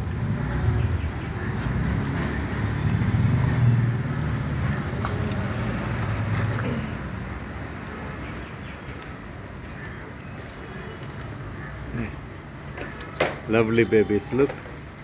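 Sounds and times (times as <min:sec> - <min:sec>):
vehicle engine running nearby: 0:00.0 - 0:13.7
street traffic rumble: 0:00.0 - 0:15.0.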